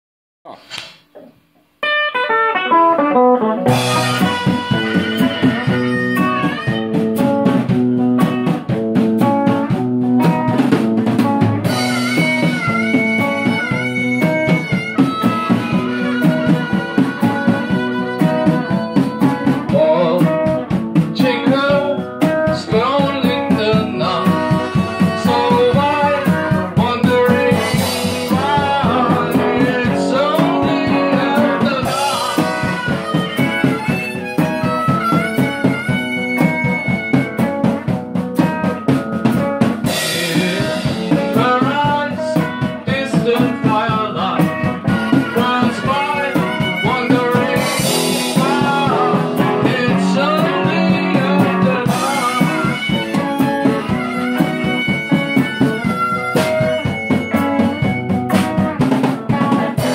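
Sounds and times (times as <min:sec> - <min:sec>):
drum kit beat: 0:00.5 - 0:59.9
electric guitar melody: 0:01.2 - 0:59.9.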